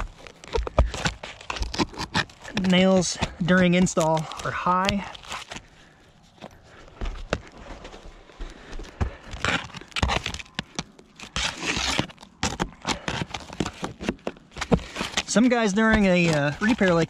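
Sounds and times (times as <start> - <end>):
gritty scraping on shingles: 0.0 - 17.0.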